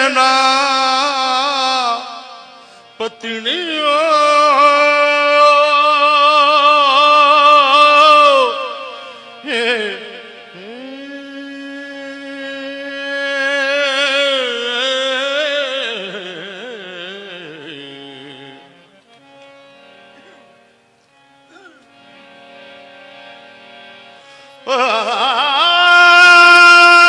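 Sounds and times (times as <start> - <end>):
man singing with vibrato: 0.0 - 19.4, 24.2 - 27.0
harmonium: 0.0 - 27.0.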